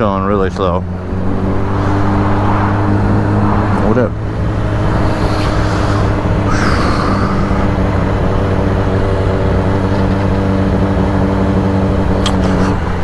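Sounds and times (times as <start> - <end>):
motorcycle engine running: 0.8 - 13.0.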